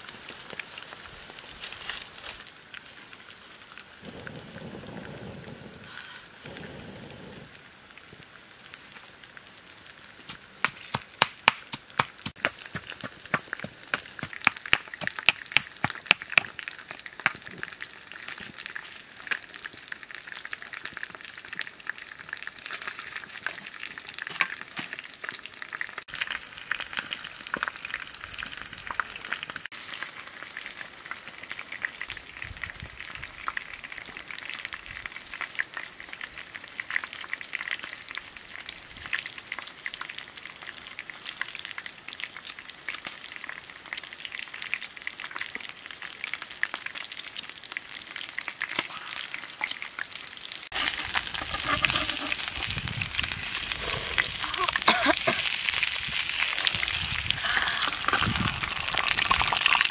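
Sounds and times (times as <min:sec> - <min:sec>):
fish sizzling on a grill: 0:00.0 - 0:59.9
wood fire crackling: 0:00.0 - 0:59.9.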